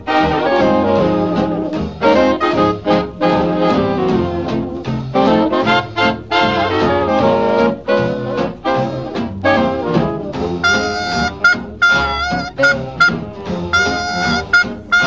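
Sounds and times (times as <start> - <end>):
swing jazz with brass: 0.0 - 15.0.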